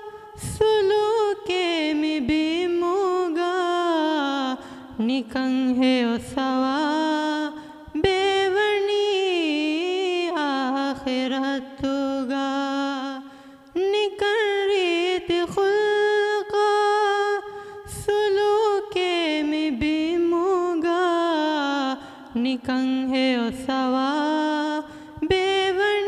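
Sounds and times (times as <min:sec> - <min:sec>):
boy singing devotional song: 0:00.0 - 0:26.0.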